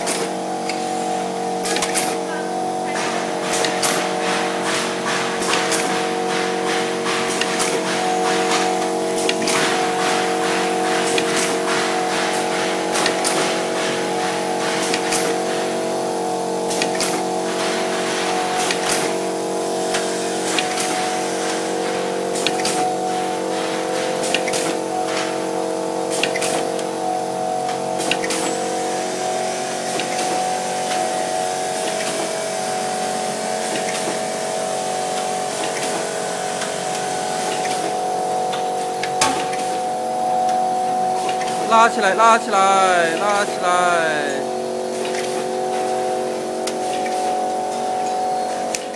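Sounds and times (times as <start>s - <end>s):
packing machine humming: 0.0s - 48.9s.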